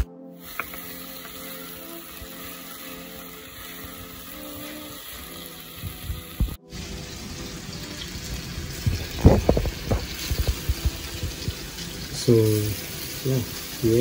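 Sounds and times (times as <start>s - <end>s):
onions and tomatoes frying: 0.0s - 14.0s.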